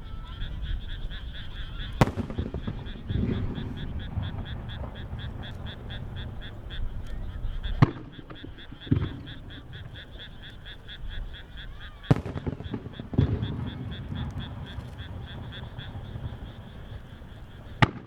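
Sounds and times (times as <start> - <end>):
fireworks bursting: 0.0 - 18.0
rapid pulsed calls chorus: 0.0 - 18.0.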